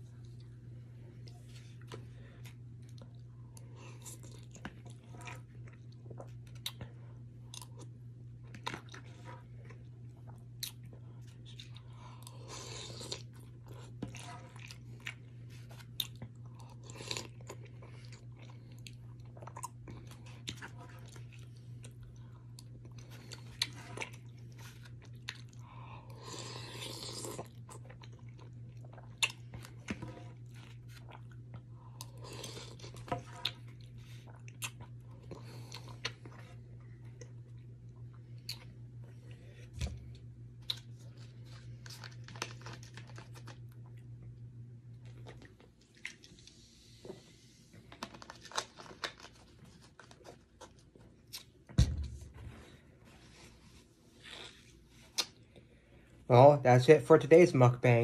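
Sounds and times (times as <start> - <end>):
person chewing: 1.2 - 44.2, 45.0 - 46.7, 48.0 - 51.7, 54.1 - 55.7.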